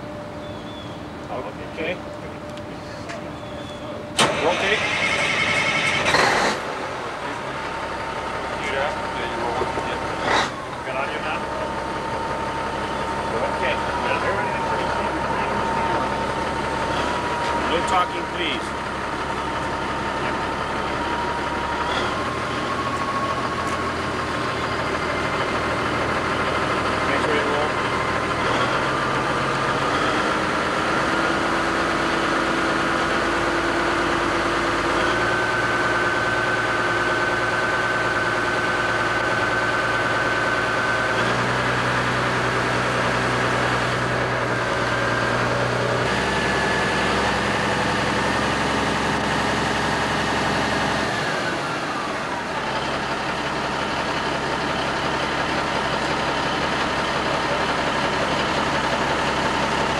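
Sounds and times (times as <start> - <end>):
truck diesel engine revving: 4.2 - 59.9.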